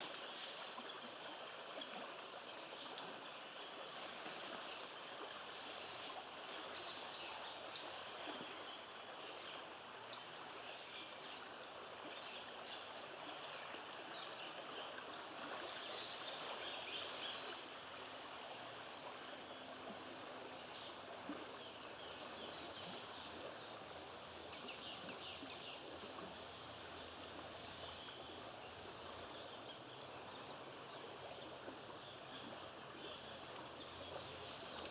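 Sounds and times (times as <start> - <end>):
soft hiss: 0.0 - 34.9
high insect drone: 2.2 - 34.9.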